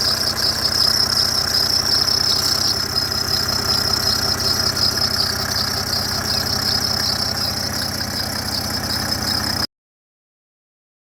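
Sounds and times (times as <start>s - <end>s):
diesel engine idling: 0.0s - 9.7s
high-pitched belt squeal: 0.0s - 9.7s.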